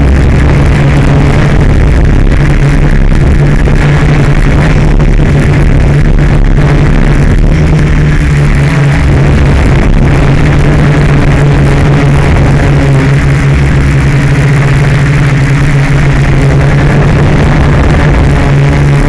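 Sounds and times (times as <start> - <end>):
drone motors and propellers humming: 0.0 - 19.0.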